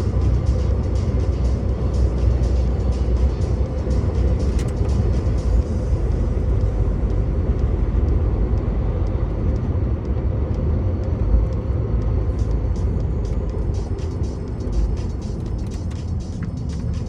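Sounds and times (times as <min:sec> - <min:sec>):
road and tyre noise: 0:00.0 - 0:17.0
truck engine running: 0:00.0 - 0:17.0.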